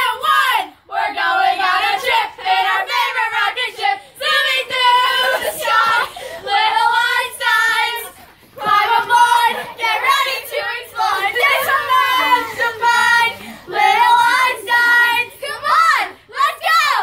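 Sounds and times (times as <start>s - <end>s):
girls singing together: 0.0s - 17.0s.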